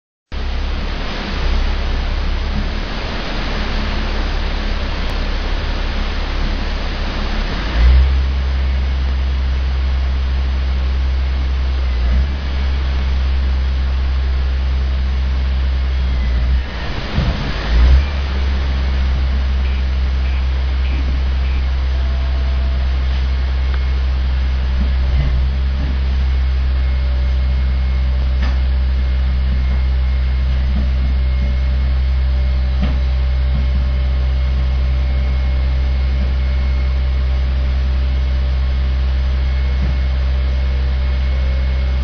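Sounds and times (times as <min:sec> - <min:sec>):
garbage truck engine and hydraulics: 0:00.3 - 0:42.0.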